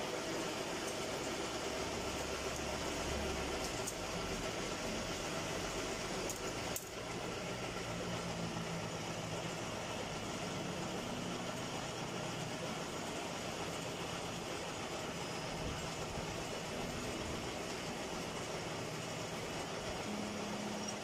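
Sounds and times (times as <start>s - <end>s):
metal lathe running: 0.0s - 21.0s.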